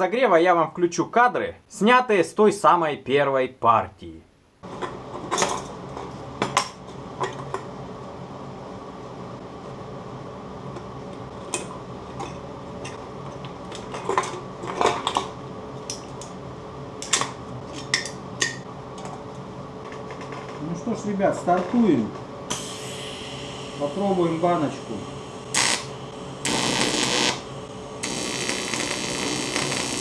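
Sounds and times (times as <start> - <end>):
steady hum: 4.3 - 30.0.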